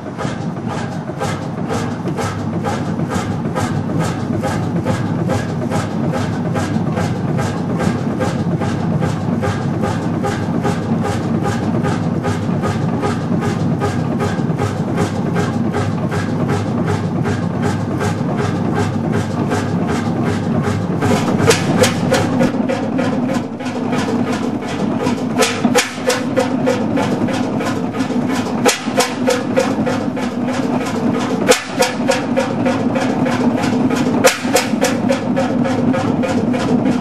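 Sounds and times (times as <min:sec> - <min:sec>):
marine engine exhaust beating: 0:00.0 - 0:37.0.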